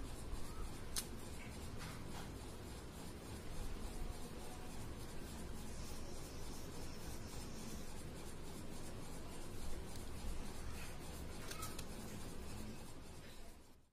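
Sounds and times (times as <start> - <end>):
crayon scratching on paper: 0.0 - 13.9.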